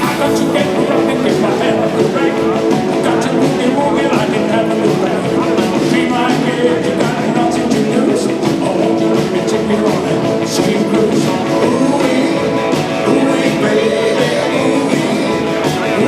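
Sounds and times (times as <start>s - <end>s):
electric guitar: 0.0s - 16.0s
person singing: 0.0s - 16.0s
rock and roll band playing: 0.0s - 16.0s.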